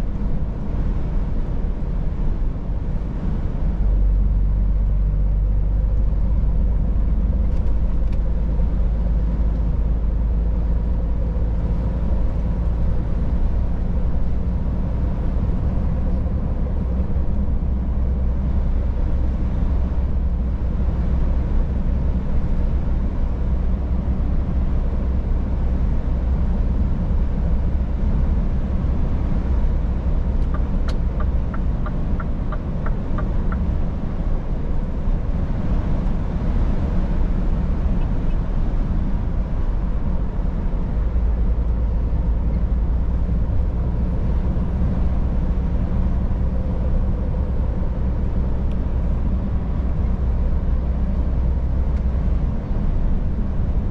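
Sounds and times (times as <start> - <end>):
diesel truck engine droning: 0.0 - 53.9.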